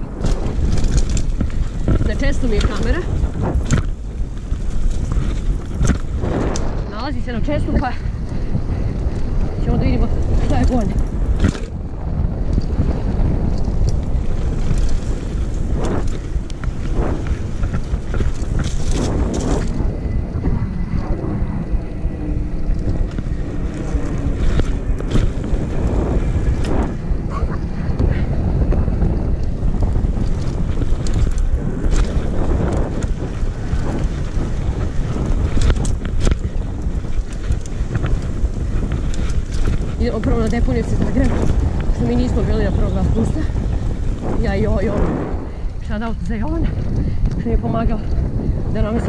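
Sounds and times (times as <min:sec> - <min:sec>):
bike knocks and rattles: 0:00.0 - 0:49.0
mountain bike rumble on trail: 0:00.0 - 0:49.0
wind buffeting microphone: 0:00.0 - 0:49.0.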